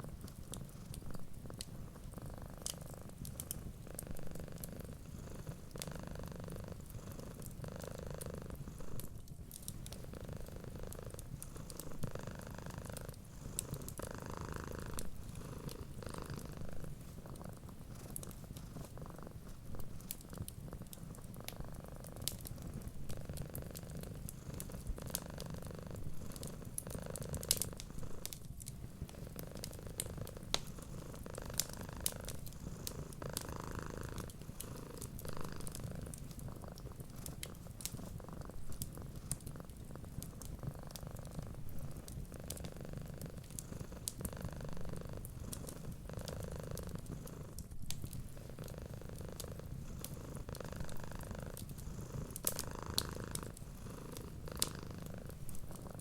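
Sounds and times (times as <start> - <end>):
wood fire crackling: 0.0 - 3.5, 12.8 - 46.1, 46.7 - 56.0
cat purring: 0.0 - 56.0.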